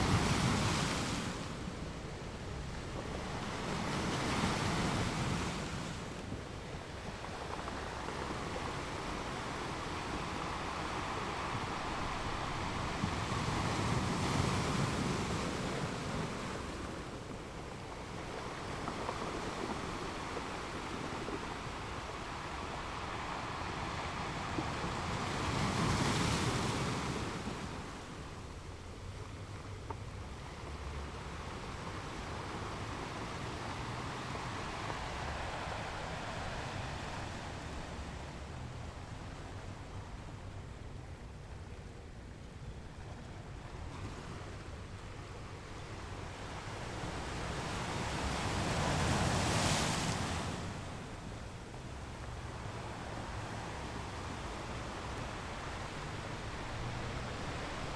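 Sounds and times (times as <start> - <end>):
ocean waves breaking: 0.0 - 40.6, 43.2 - 57.9
low steady surf: 0.0 - 57.9.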